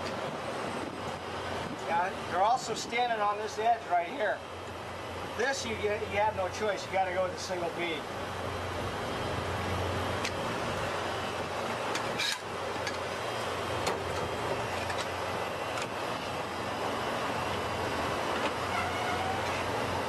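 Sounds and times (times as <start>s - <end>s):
traffic-like rush: 0.0s - 20.0s.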